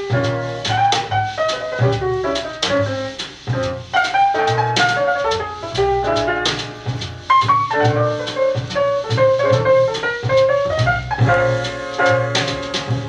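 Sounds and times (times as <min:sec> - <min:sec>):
small-group jazz from a record: 0:00.0 - 0:13.0.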